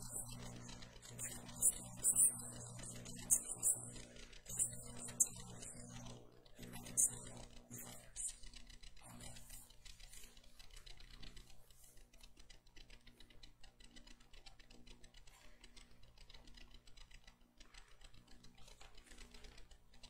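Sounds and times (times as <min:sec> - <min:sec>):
light rapid clicking: 0:00.0 - 0:20.0
steady low hum: 0:00.0 - 0:20.0.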